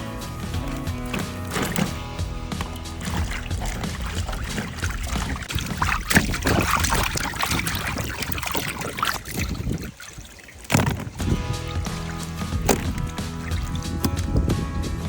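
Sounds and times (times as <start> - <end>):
water sloshing and trickling: 0.0 - 15.0.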